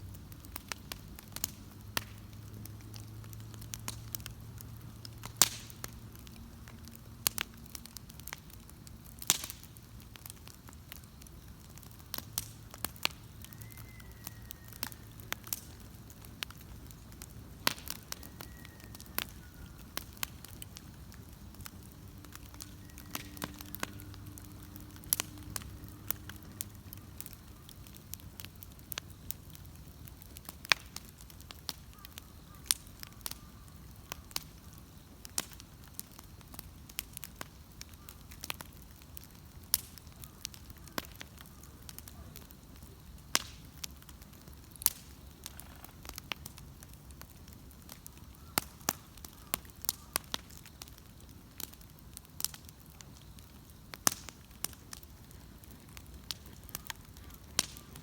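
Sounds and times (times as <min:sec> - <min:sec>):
bonfire crackling and popping: 0:00.0 - 0:58.0
low rush of flames: 0:00.0 - 0:58.0.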